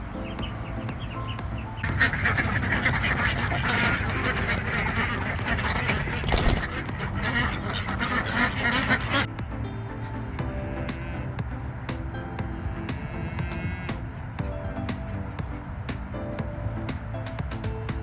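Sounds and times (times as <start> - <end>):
ducks quacking: 0.0 - 9.4, 10.0 - 18.0.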